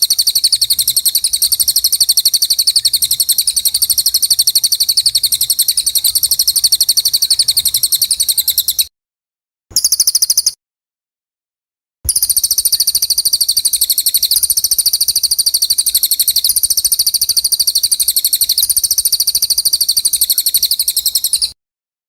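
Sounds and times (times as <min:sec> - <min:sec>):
songbird singing: 0:00.0 - 0:08.9, 0:09.7 - 0:10.6, 0:12.1 - 0:21.6.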